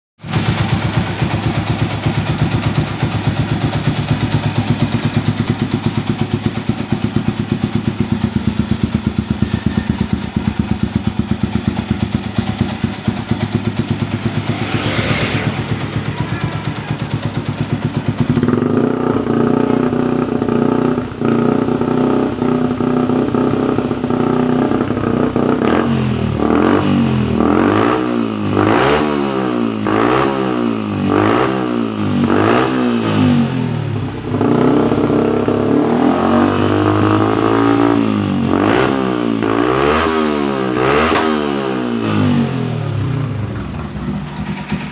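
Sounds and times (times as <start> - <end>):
motorcycle engine idling and revving: 0.2 - 44.9.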